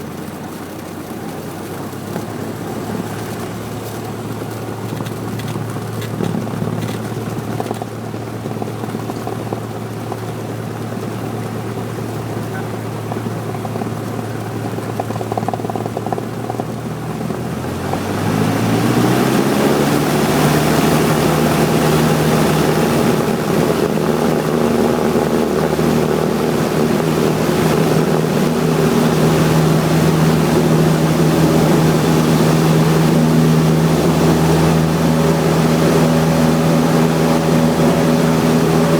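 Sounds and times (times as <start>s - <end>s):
aircraft piston engine and propeller: 0.0s - 38.9s.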